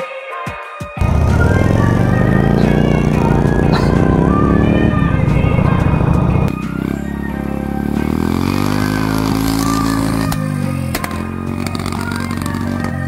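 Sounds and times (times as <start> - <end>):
motorcycle engine revving: 1.0 - 13.0.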